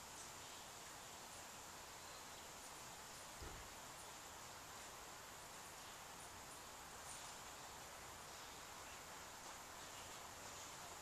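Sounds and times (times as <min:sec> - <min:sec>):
faint insect hum: 0:00.0 - 0:11.0.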